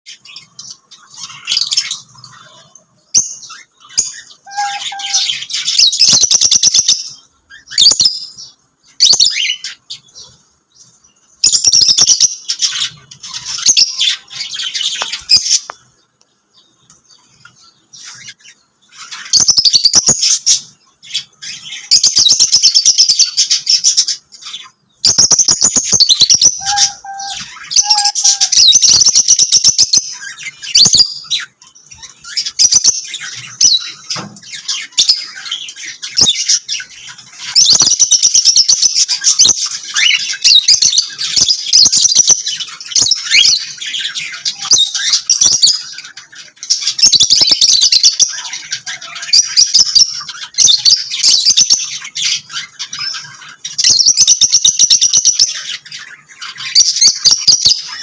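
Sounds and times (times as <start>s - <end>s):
birds chirping and chattering: 0.1s - 58.0s.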